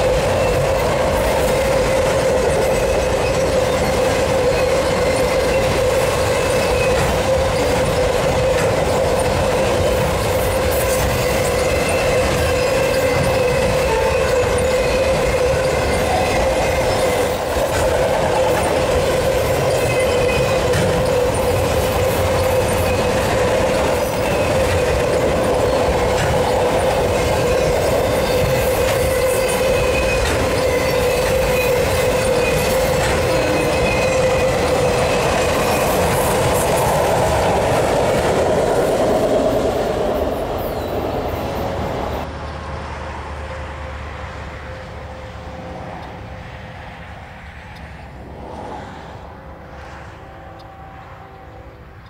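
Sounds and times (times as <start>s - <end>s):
high wheel squeal: 0.0s - 42.3s
train wheels rumbling on rails: 0.0s - 52.0s.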